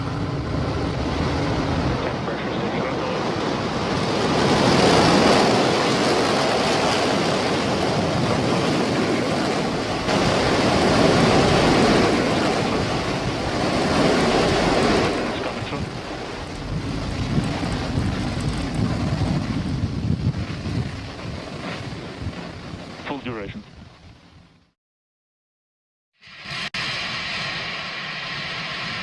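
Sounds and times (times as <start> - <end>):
rocket engine roaring: 0.0 - 23.3, 26.2 - 29.0.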